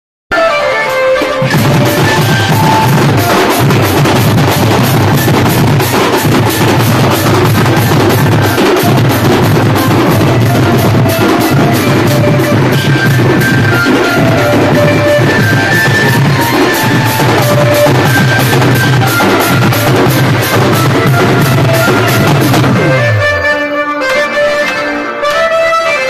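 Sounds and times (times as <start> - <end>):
marching drums beating: 1.5 - 23.2.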